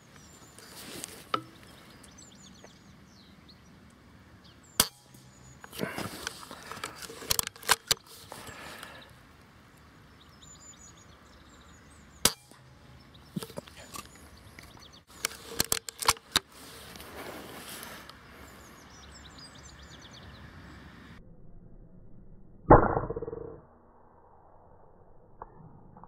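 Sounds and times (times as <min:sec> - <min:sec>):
birds chirping faintly: 0:00.0 - 0:21.2.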